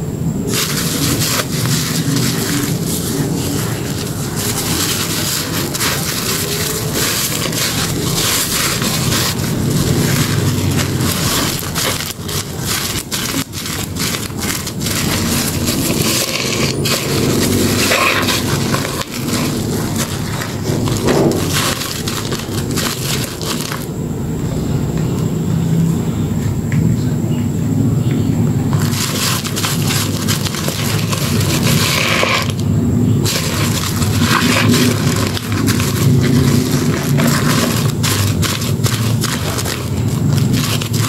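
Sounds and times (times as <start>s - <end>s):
soapy sponge squelching: 0.4s - 23.9s, 28.8s - 41.0s.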